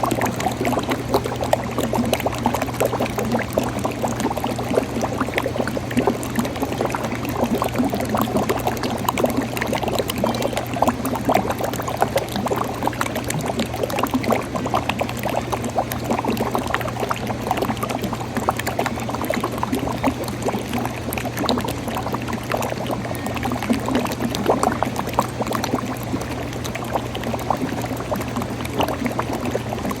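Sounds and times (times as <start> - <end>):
liquid pouring and gurgling: 0.0 - 30.0.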